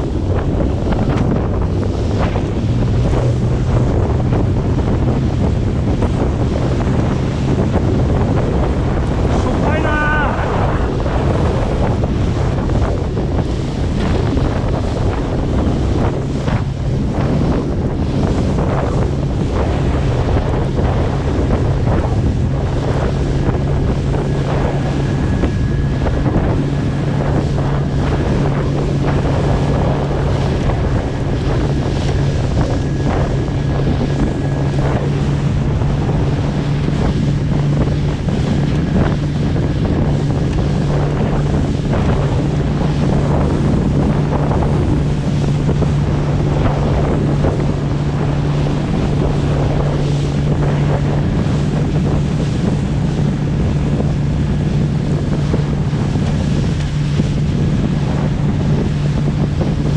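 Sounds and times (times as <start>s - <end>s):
boat engine droning: 0.0s - 59.9s
waves splashing against hull: 0.0s - 59.9s
wind buffeting microphone: 0.0s - 59.9s.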